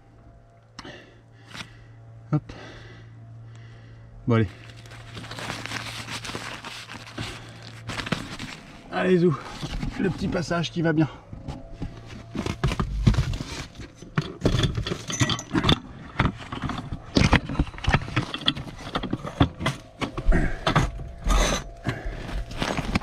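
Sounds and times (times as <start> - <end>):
insulation rustling: 4.4 - 23.0.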